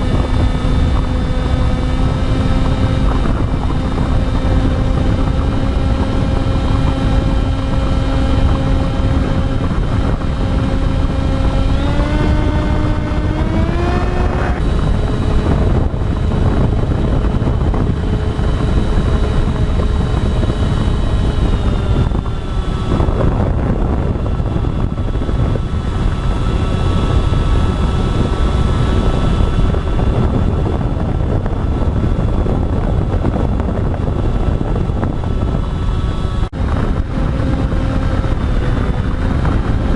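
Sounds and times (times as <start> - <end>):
low rumble: 0.0 - 39.9
model aircraft propeller whine: 0.0 - 39.9.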